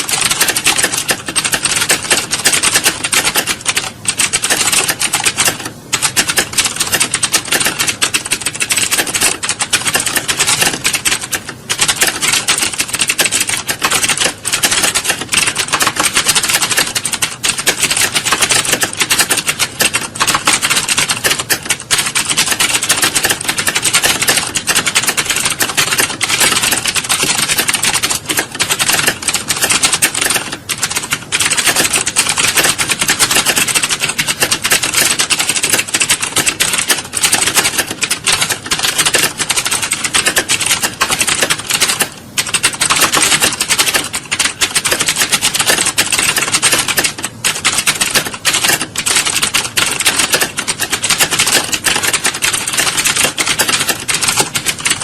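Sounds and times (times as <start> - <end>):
many keyboards clattering: 0.0 - 55.0.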